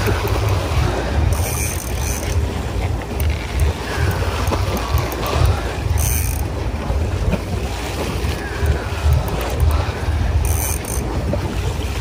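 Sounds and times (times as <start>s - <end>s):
rush of water: 0.0s - 12.0s
wind buffeting microphone: 0.0s - 12.0s.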